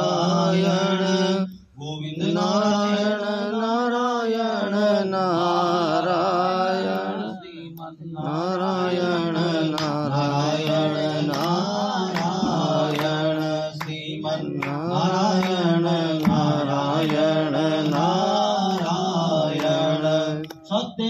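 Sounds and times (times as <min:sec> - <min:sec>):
devotional chant singing: 0:00.0 - 0:21.0.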